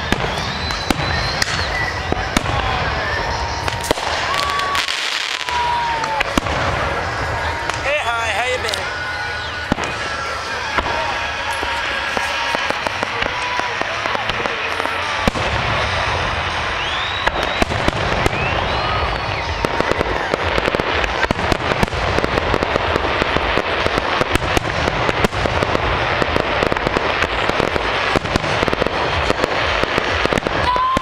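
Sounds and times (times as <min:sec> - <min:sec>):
fireworks crackling and popping: 0:00.0 - 0:31.0.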